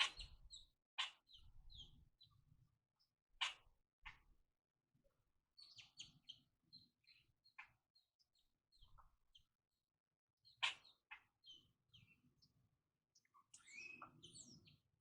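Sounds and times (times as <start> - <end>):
small birds chirping: 0.0 - 4.3, 5.6 - 15.0.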